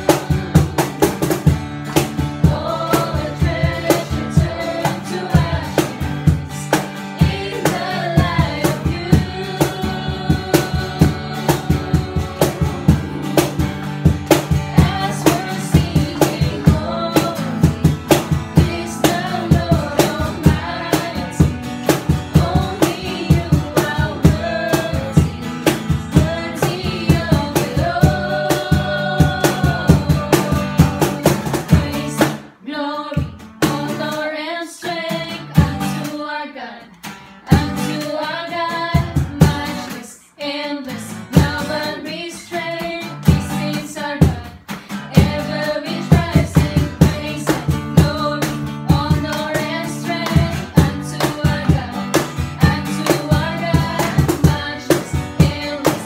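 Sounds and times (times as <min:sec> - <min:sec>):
group singing together: 0:00.0 - 0:56.0
strummed acoustic guitar: 0:00.0 - 0:56.0.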